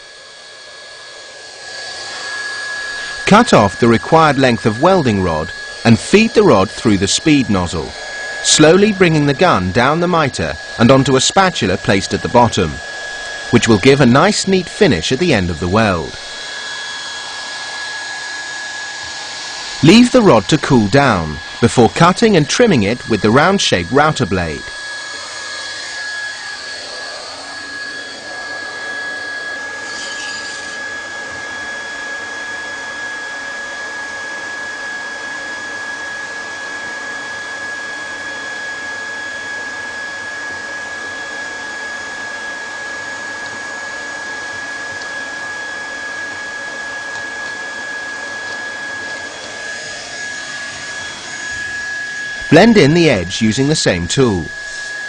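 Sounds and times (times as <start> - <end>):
hot-air welding gun blower: 0.0 - 55.0.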